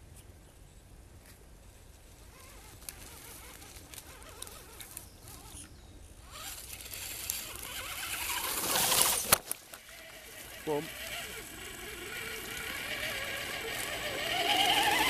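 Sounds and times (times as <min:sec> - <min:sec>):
rustling and ticks: 0:01.2 - 0:15.0.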